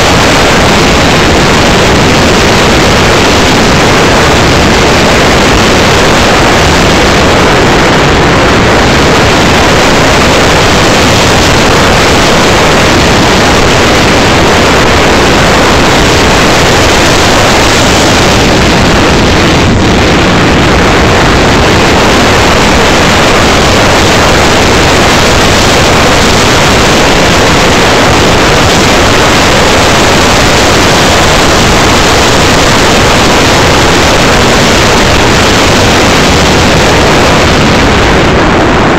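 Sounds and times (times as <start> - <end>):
wind rushing: 0.0 - 38.9.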